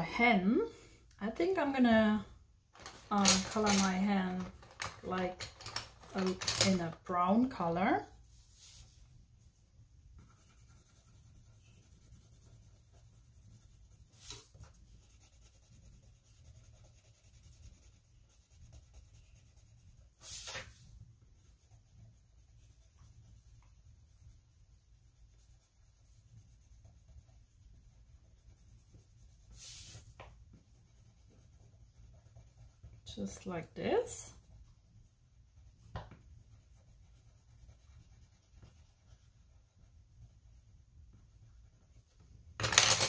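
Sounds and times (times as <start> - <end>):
colored pencil scratching on paper: 2.8 - 9.1, 10.1 - 43.0.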